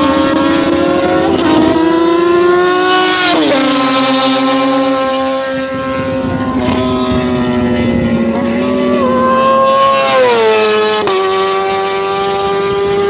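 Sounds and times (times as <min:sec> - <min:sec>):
motorcycle engine passing by: 0:00.0 - 0:13.0.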